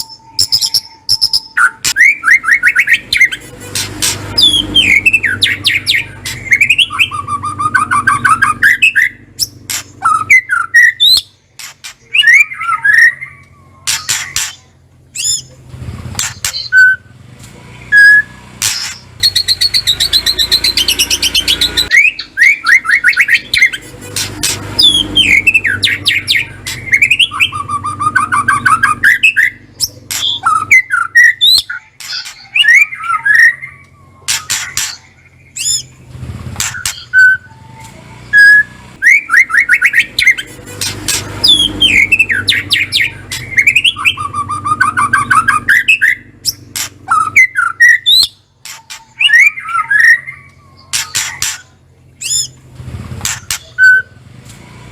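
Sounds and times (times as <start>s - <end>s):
bird trilling and whistling: 0.0s - 17.1s, 17.8s - 54.2s.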